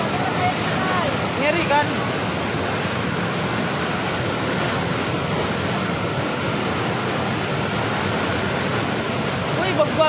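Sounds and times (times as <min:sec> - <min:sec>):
water rushing over weir: 0:00.0 - 0:10.0.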